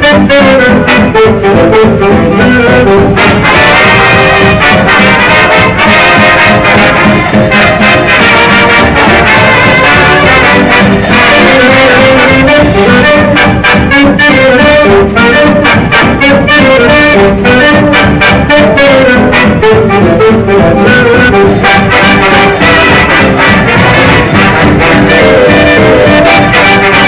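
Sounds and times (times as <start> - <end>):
brass horns playing: 0.0 - 27.0
steady drum beat: 0.0 - 27.0
swing jazz music: 0.0 - 27.0.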